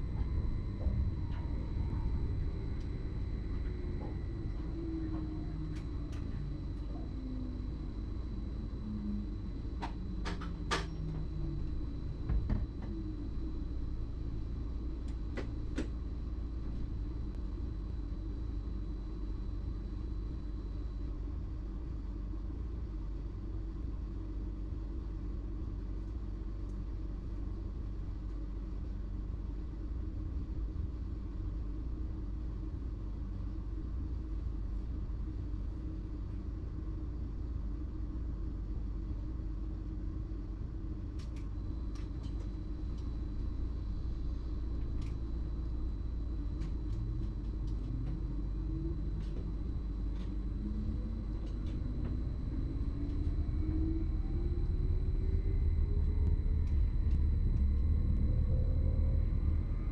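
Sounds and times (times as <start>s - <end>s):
electric traction drive whine: 0.0s - 22.6s, 33.0s - 59.9s.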